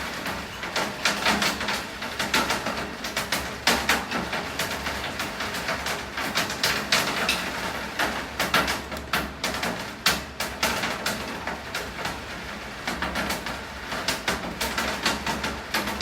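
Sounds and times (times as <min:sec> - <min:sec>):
raindrops tapping on hard surface: 0:00.2 - 0:16.0.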